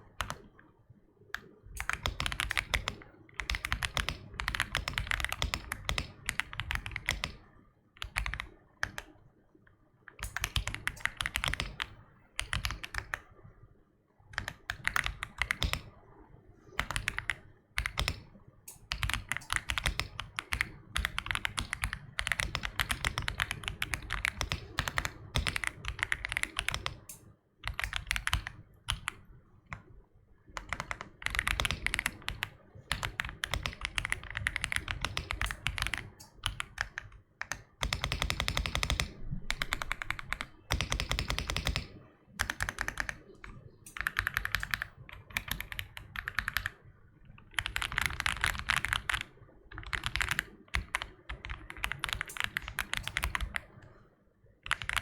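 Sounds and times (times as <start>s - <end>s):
mechanical keyboard typing: 0.1s - 0.5s, 1.4s - 9.1s, 10.1s - 13.2s, 14.4s - 16.0s, 16.8s - 29.9s, 30.6s - 46.8s, 47.4s - 53.9s, 54.6s - 55.0s.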